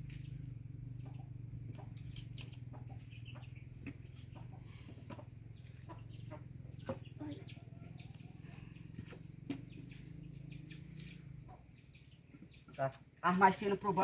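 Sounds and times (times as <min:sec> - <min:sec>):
steady low hum: 0:00.0 - 0:12.0
chickens clucking: 0:00.0 - 0:14.0.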